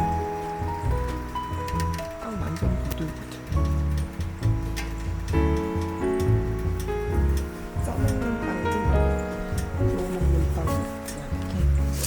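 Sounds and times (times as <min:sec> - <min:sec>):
instrumental music with pulsing bass: 0:00.0 - 0:12.0.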